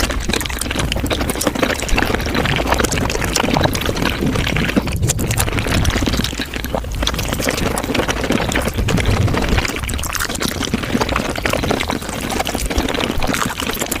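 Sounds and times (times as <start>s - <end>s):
wet chewing and slurping: 0.0s - 14.0s.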